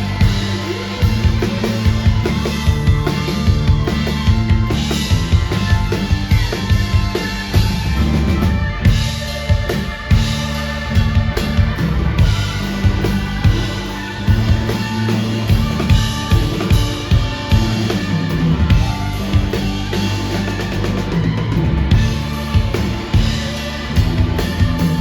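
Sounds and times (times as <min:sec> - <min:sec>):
drum kit: 0:00.0 - 0:25.0
guitar: 0:00.0 - 0:25.0
keyboards: 0:00.0 - 0:25.0
sustained bass notes: 0:00.0 - 0:25.0.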